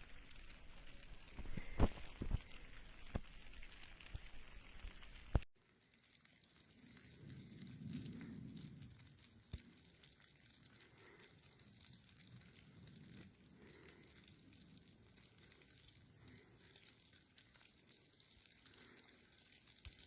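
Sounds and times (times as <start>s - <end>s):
faint crackling: 0.0s - 20.0s.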